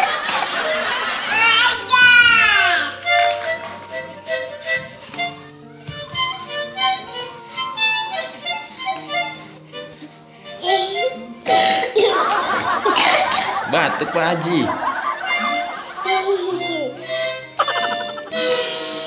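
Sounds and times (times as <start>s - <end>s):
harmonica chords: 0.0s - 19.0s.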